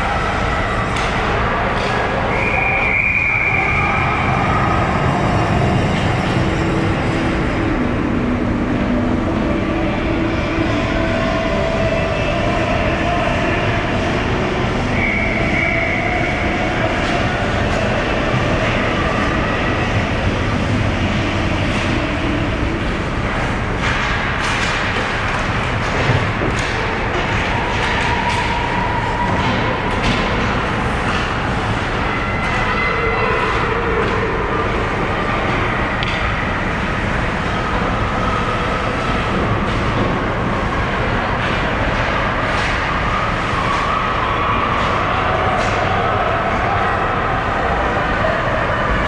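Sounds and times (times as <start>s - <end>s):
ice arena crowd din: 0.0s - 49.0s.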